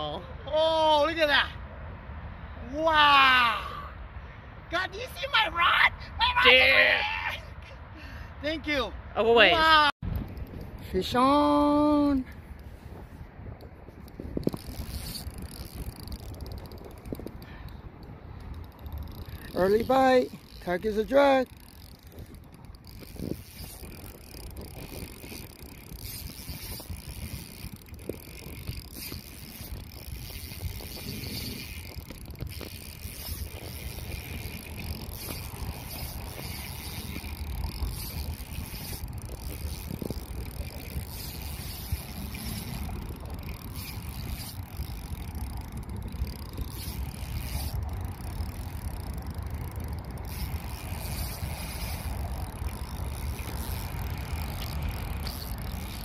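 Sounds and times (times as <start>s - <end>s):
wind buffeting microphone: 9.4s - 56.0s.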